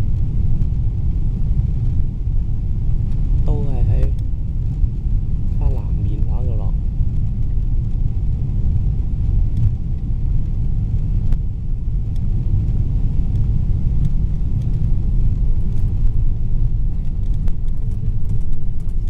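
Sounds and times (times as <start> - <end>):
airplane cabin low rumble: 0.0 - 19.0.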